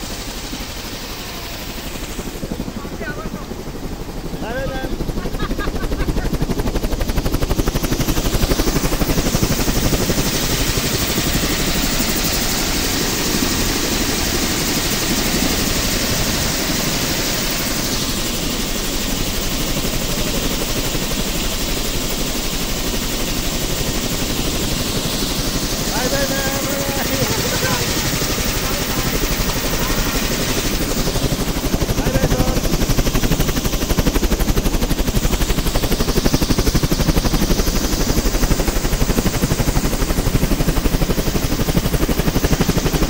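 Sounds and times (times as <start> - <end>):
helicopter rotor chop: 0.0 - 43.0
helicopter turbine hiss: 0.0 - 43.0.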